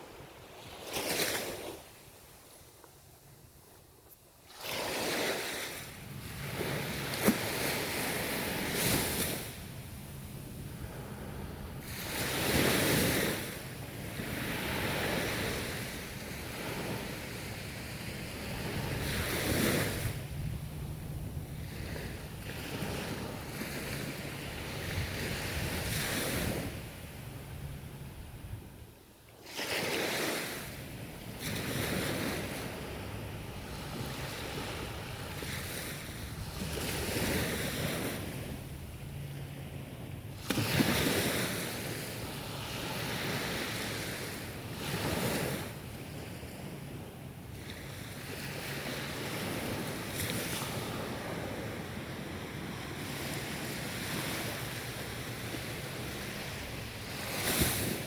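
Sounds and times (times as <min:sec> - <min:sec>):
ocean waves breaking on shore: 0:00.0 - 0:02.8, 0:04.4 - 0:58.0.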